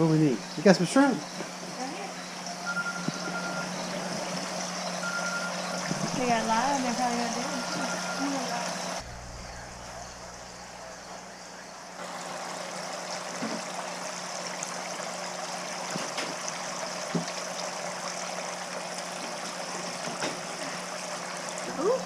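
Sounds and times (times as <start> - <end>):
water running and trickling: 0.0 - 9.1, 10.2 - 22.0
low steady hum: 0.0 - 22.0.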